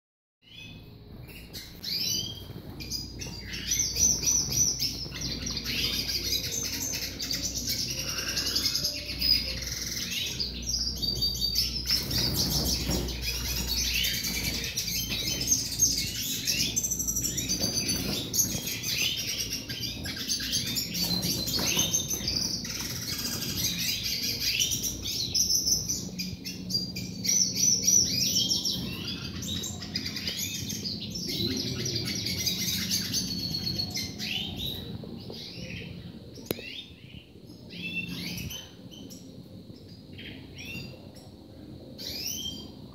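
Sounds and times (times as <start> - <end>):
finches twittering and trilling: 0.4 - 42.9.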